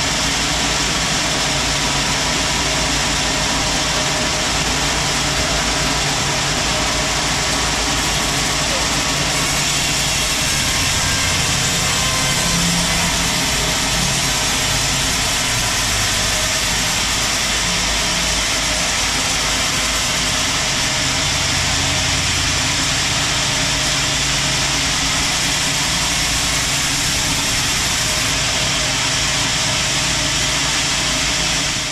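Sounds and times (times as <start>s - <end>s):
loud even hiss: 0.0s - 31.9s.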